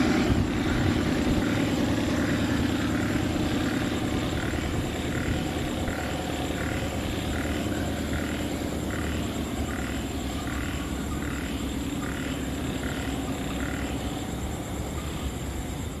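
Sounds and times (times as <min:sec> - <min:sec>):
frogs calling: 0:00.0 - 0:16.0
steady low hum: 0:00.0 - 0:16.0.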